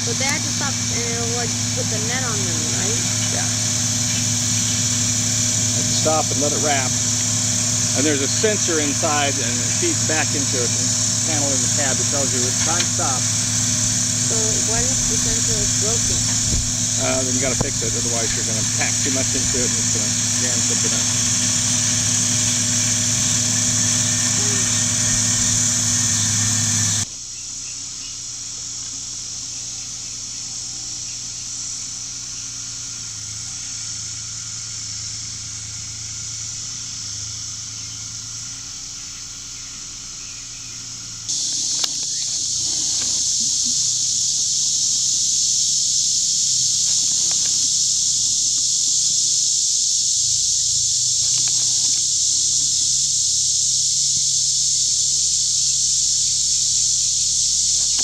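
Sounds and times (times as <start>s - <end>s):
high-pitched insect chorus: 0.0s - 58.0s
tractor engine humming: 0.0s - 58.0s.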